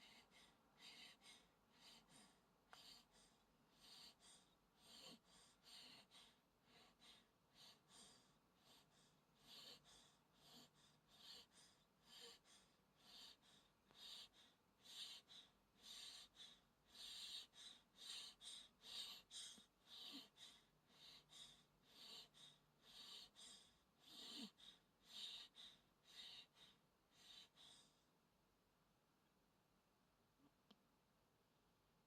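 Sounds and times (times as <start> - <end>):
baby breathing in sleep: 0.0 - 28.1.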